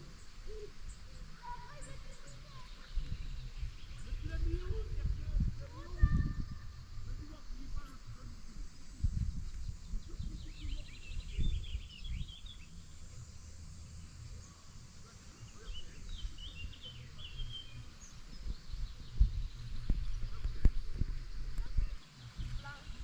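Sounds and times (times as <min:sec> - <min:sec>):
low uneven rumble: 0:00.0 - 0:23.0
small birds chirping: 0:00.0 - 0:23.0.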